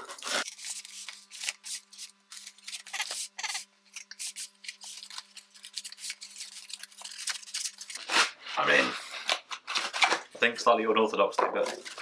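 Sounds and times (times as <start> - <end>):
knife cutting tape and cardboard: 0.0 - 10.2.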